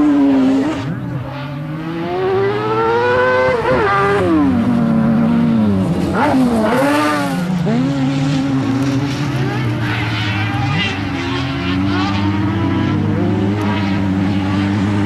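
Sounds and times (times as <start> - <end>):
racing buggy engine revving: 0.0 - 15.0.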